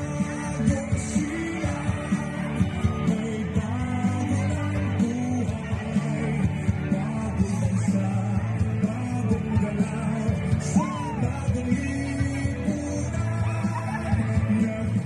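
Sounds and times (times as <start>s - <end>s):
song with singing over beat: 0.0s - 15.0s.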